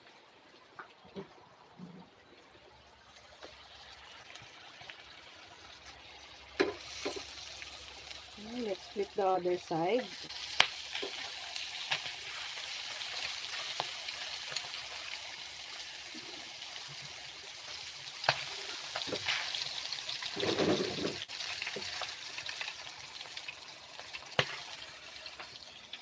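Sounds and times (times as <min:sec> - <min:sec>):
food sizzling in oil: 0:03.1 - 0:26.0.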